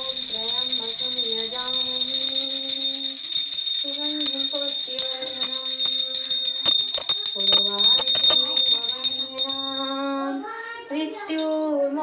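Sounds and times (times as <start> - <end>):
hand bell ringing: 0.0 - 10.2
person singing devotional melody: 0.0 - 12.0.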